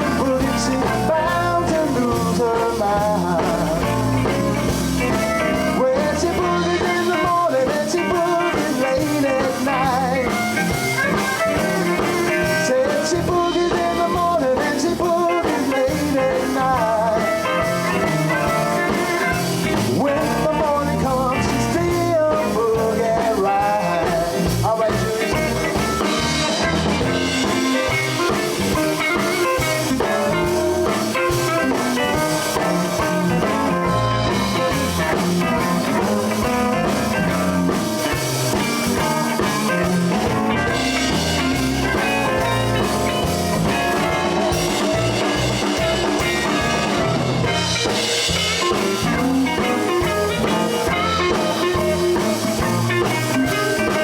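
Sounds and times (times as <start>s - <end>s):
electric guitar: 0.0s - 54.0s
live blues band: 0.0s - 54.0s.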